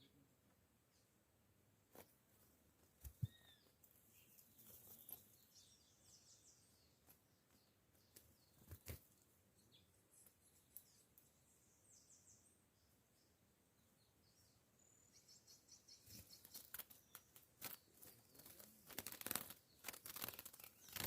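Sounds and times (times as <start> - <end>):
faint high bird chirps: 3.0 - 21.0.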